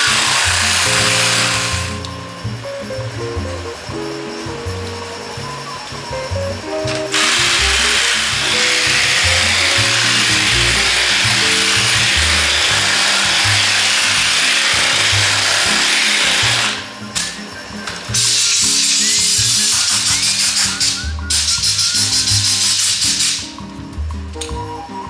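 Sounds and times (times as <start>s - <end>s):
air sander hissing: 0.0s - 2.5s, 3.2s - 17.0s, 18.0s - 23.6s
background music with bass line: 0.0s - 25.0s.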